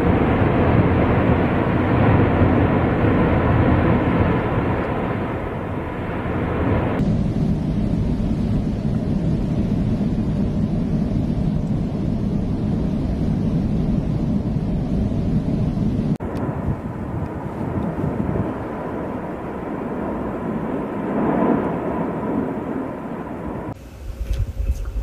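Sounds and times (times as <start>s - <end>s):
volcano eruption roar: 0.0s - 23.8s.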